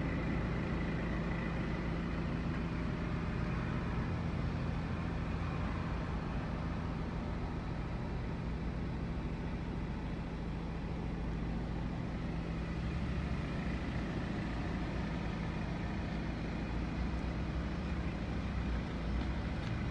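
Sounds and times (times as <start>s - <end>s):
diesel engine humming: 0.0s - 19.9s.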